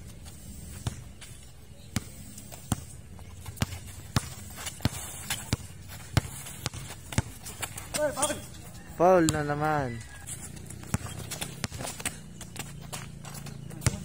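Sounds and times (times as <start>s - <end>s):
basketball bouncing on concrete: 0.2s - 14.0s.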